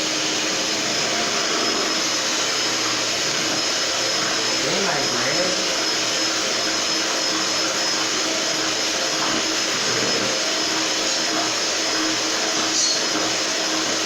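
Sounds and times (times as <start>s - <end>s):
electric mixer whining: 0.0s - 14.0s.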